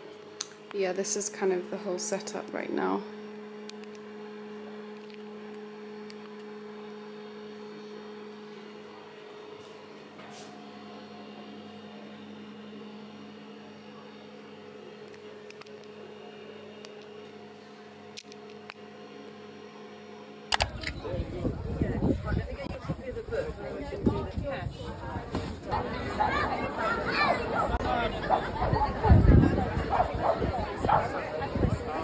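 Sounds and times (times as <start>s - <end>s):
electrical appliance hum: 0.0s - 32.0s.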